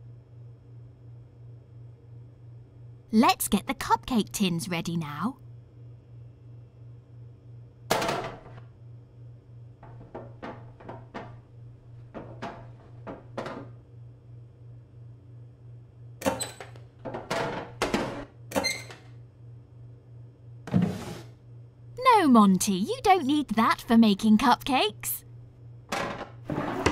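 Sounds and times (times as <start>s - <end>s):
low steady hum: 0.0s - 18.5s, 19.1s - 26.5s.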